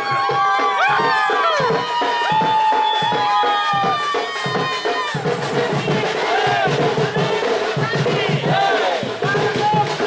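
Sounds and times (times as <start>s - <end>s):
crowd noise: 0.0s - 10.0s
drum beats: 0.0s - 10.0s.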